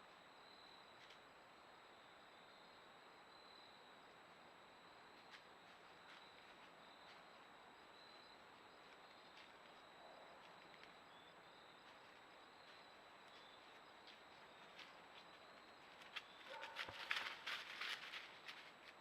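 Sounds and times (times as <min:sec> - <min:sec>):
faint scattered ticks: 0:00.0 - 0:01.4, 0:04.9 - 0:19.0.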